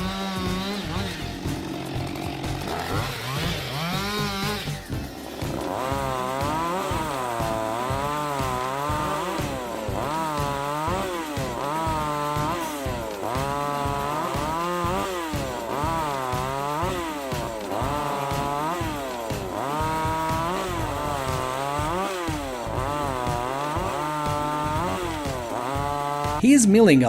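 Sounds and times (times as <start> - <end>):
chainsaw cutting wood: 0.0 - 26.4.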